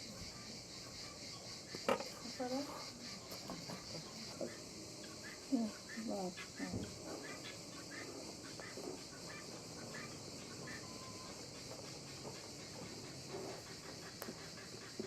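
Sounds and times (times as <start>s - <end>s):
chickens clucking: 0.0s - 15.0s
high insect drone: 0.0s - 15.0s.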